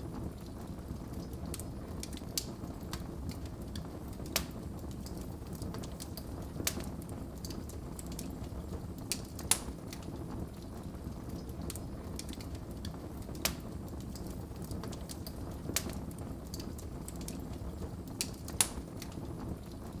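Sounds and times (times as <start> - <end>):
low rumble of flames: 0.0 - 20.0
wood fire crackling: 0.0 - 20.0
sharp fire pops: 1.1 - 20.0.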